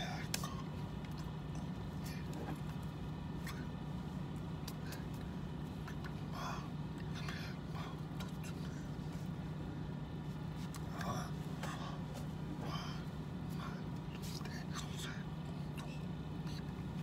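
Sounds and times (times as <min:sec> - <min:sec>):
low hum inside vehicle: 0:00.0 - 0:17.0.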